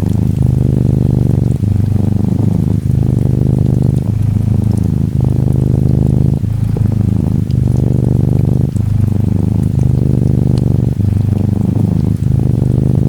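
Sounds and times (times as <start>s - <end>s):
gentle rain pattering: 0.0s - 13.0s
kitten purring: 0.0s - 13.0s.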